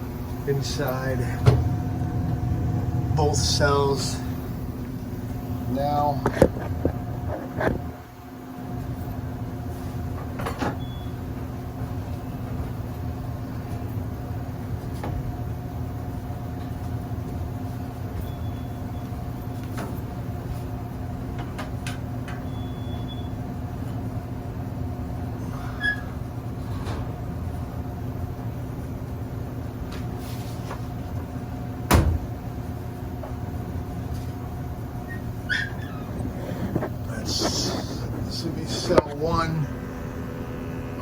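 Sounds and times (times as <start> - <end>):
gas furnace rumble and hum: 0.0 - 41.0.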